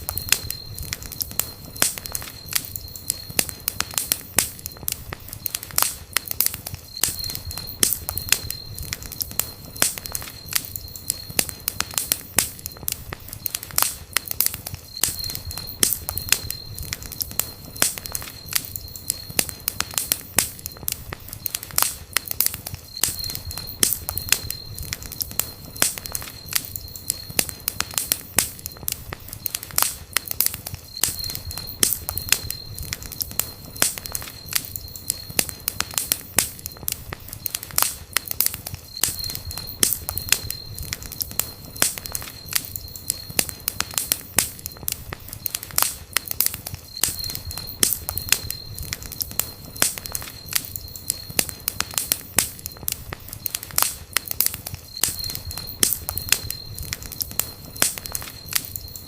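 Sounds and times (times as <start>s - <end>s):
campfire crackling and popping: 0.0s - 59.0s
faint high whistle: 0.0s - 59.0s
low rumble of flame: 0.0s - 59.0s.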